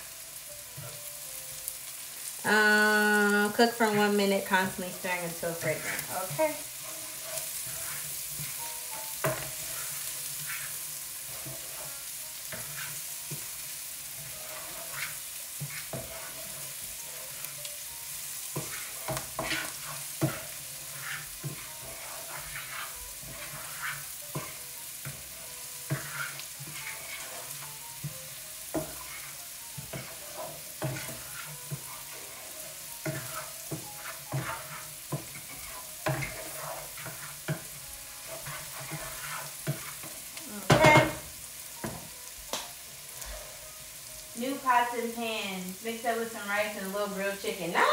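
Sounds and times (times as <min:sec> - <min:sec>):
vegetables sizzling in oil: 0:00.0 - 0:47.9
spatula scraping a pan: 0:00.1 - 0:01.6, 0:02.2 - 0:42.2, 0:42.8 - 0:45.2.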